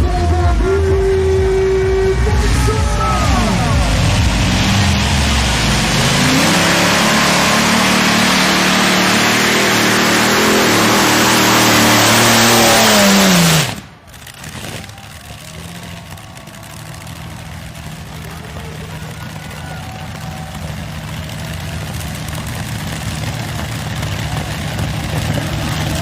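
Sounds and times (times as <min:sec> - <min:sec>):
tractor engine at full power: 0:00.0 - 0:26.0
tractor engine idling: 0:00.0 - 0:26.0.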